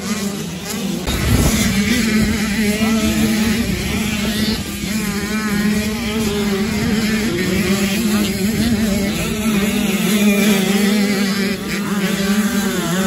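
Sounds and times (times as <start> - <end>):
motocross bikes revving: 0.0 - 13.0.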